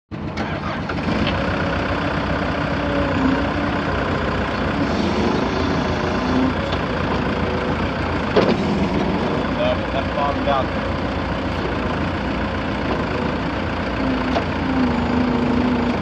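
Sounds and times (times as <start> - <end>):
diesel engine idling: 0.1 - 16.0.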